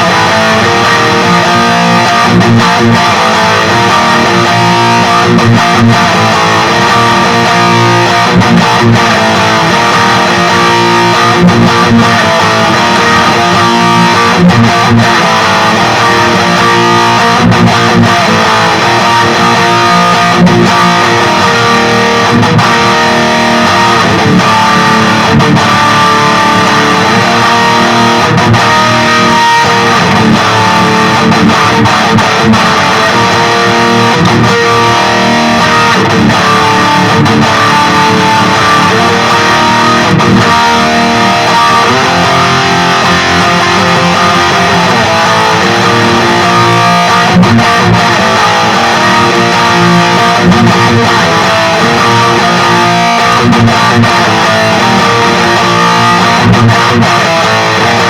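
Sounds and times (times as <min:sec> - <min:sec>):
distorted electric guitar riffing: 0:00.0 - 0:58.0.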